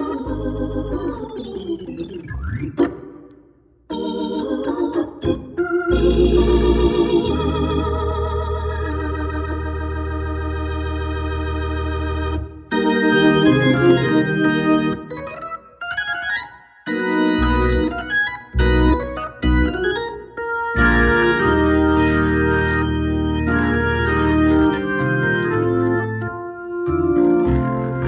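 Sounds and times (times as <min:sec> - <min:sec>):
organ chords with rotating warble: 0:00.0 - 0:28.0.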